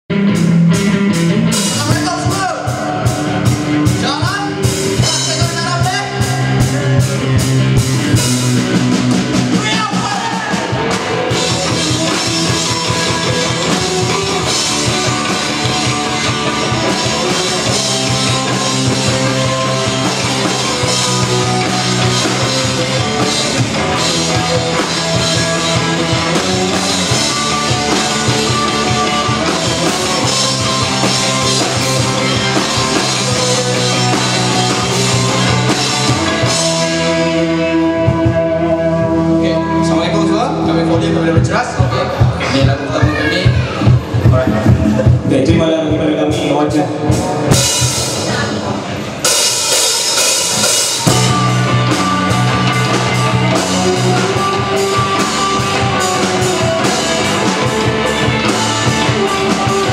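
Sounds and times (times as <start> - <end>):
bass guitar: 0.0 - 59.9
drum kit: 0.1 - 59.9
electric guitars: 0.1 - 59.9.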